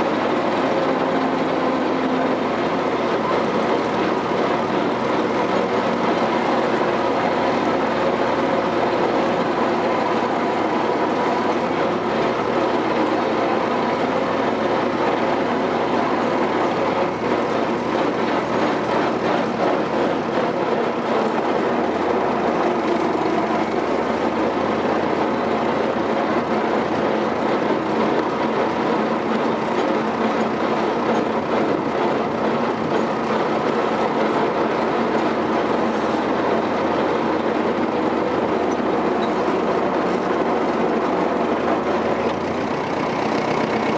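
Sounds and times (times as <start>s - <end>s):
diesel engine running: 0.0s - 43.9s
steel tracks clattering: 0.0s - 43.9s.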